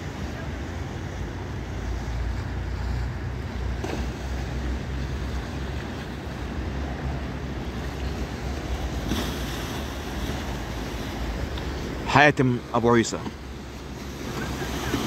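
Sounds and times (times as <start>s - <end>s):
waves surging against concrete blocks: 0.0s - 15.0s.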